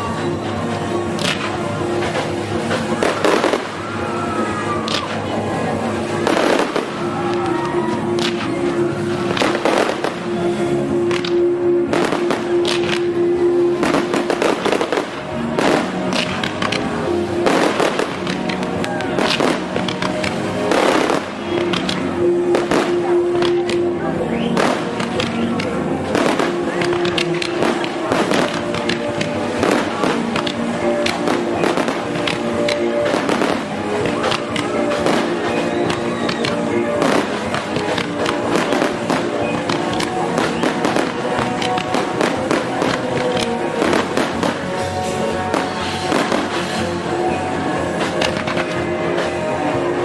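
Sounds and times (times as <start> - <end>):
fireworks bangs and crackles: 0.0 - 50.0
music with long held notes: 0.0 - 50.0.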